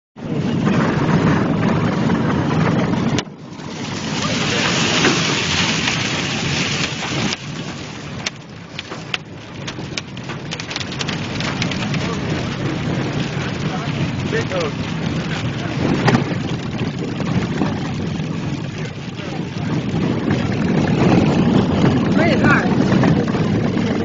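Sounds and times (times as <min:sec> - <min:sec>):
wind buffeting phone microphone: 0:00.2 - 0:24.0
crackling: 0:03.1 - 0:24.0.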